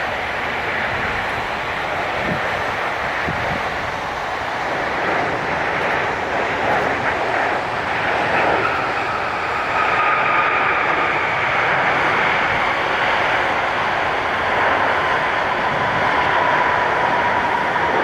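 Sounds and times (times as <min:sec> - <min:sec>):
jet airliner passing: 0:00.0 - 0:18.0.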